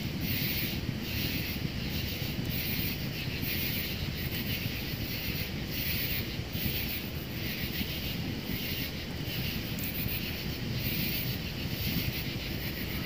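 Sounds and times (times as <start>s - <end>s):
wood fire burning in stove: 0.0s - 13.0s.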